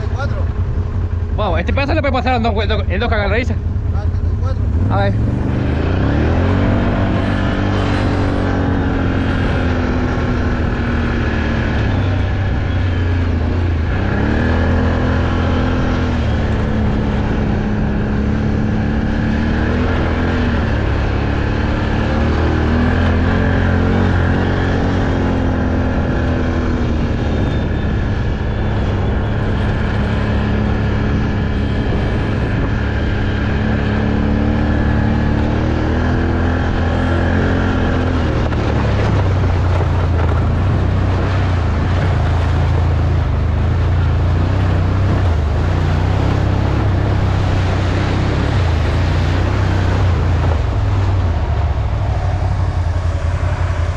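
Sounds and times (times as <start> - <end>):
off-road vehicle engine: 0.0 - 53.9.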